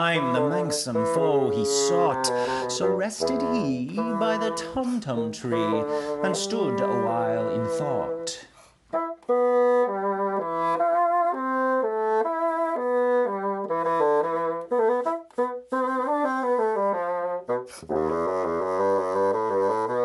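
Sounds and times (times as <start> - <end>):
bassoon melody: 0.0 - 20.0
lower accompanying part: 0.0 - 20.0.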